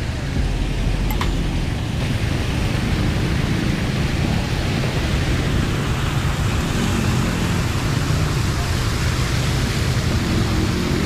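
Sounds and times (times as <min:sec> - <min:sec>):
water fountain splashing: 0:00.0 - 0:11.0.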